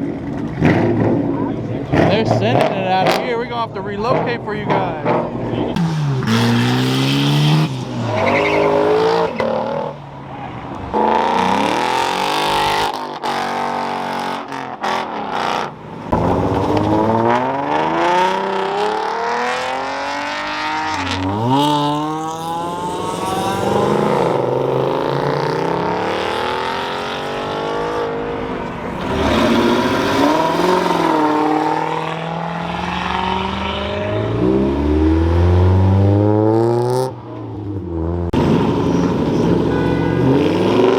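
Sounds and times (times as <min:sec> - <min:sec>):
cars revving and accelerating: 0:00.0 - 0:40.9.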